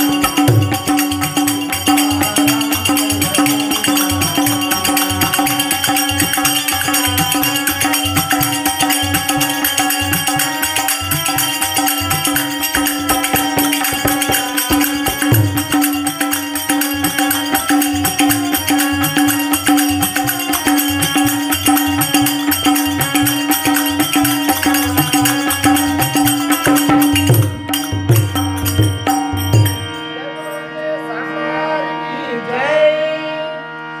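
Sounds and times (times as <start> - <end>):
tabla beat: 0.0 - 30.1
harmonium drone: 0.0 - 34.0.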